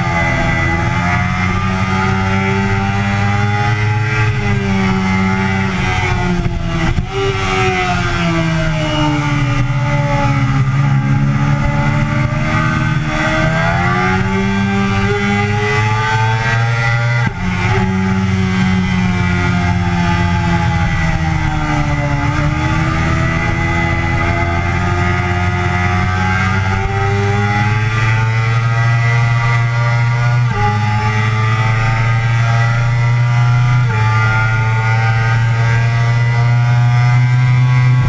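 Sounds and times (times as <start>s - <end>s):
sport bike engine revving: 0.0s - 38.0s.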